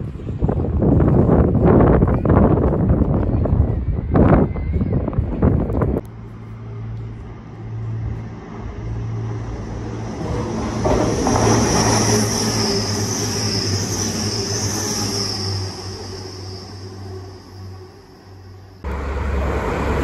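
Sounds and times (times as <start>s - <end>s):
train engine hum: 0.0s - 20.0s
train rushing rolling noise: 0.0s - 20.0s.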